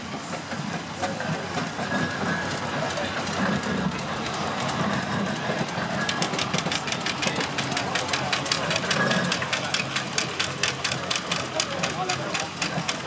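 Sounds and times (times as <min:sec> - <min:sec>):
steam engine clanking: 0:00.0 - 0:13.0
steam hissing: 0:00.0 - 0:13.0.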